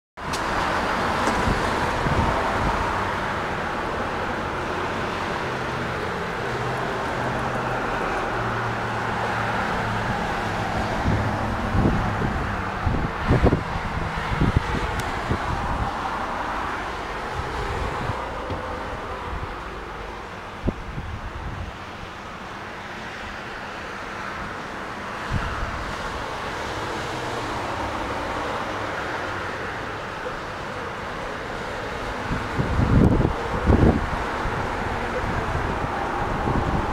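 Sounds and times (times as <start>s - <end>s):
wind buffeting microphone: 0.2s - 22.2s, 25.2s - 30.4s, 31.4s - 36.9s
road traffic noise: 0.2s - 36.9s.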